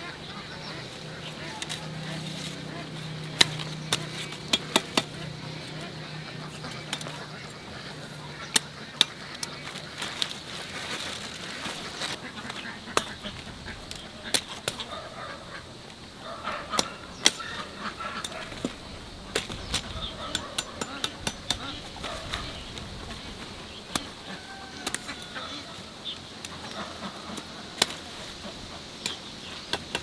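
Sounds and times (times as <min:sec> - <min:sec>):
poultry calling: 0:00.0 - 0:19.0, 0:19.6 - 0:29.7.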